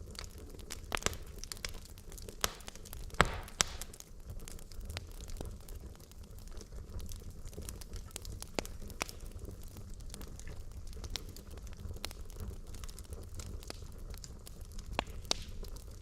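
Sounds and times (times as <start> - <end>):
fire crackling: 0.0 - 16.0
wood popping in fire: 0.0 - 16.0.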